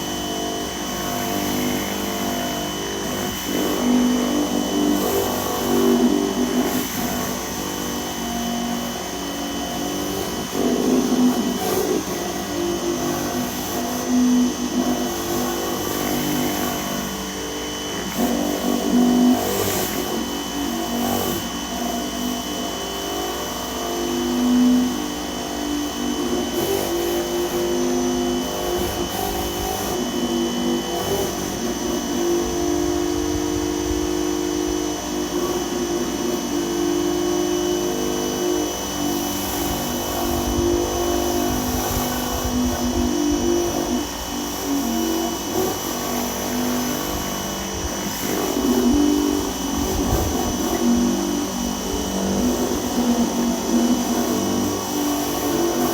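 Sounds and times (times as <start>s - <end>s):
pressure washer running and spraying: 0.0s - 55.9s.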